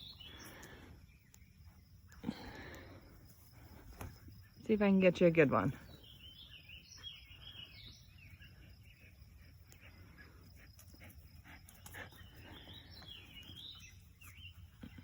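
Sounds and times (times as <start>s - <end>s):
faint bird chirps: 0.0s - 4.8s, 5.6s - 15.0s.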